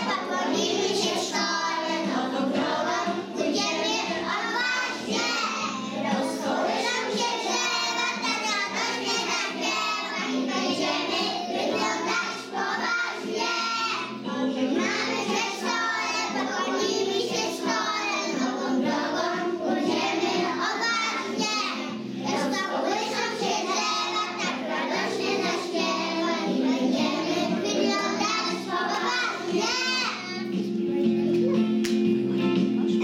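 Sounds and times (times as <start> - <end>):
children singing together: 0.0 - 30.6.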